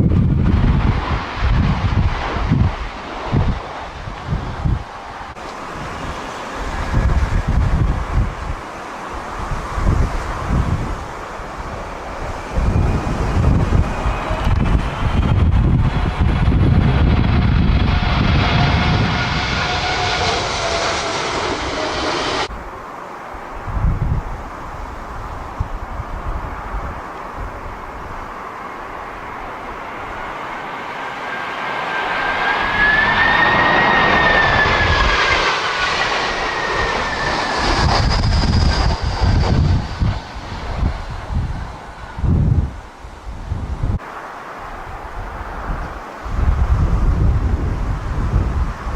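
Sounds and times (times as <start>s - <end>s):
wind buffeting microphone: 0.0s - 31.2s, 31.8s - 48.9s
jet engines rushing: 0.0s - 48.9s.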